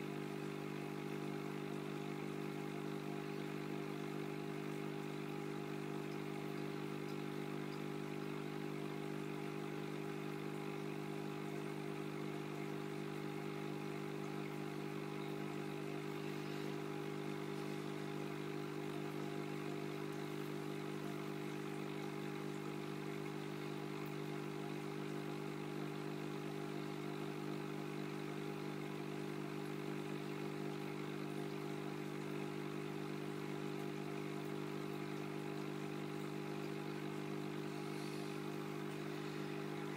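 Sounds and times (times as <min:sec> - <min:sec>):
electrical hum of aquarium equipment: 0:00.0 - 0:39.9.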